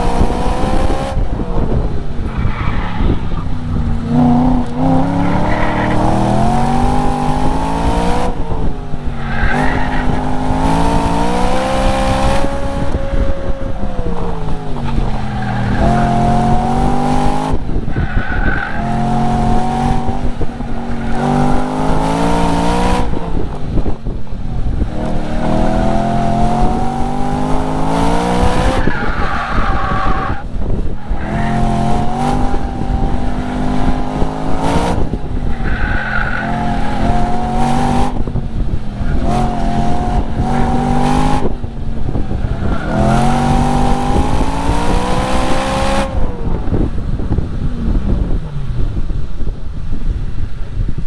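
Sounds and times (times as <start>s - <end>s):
car engine revving: 0.0s - 49.6s.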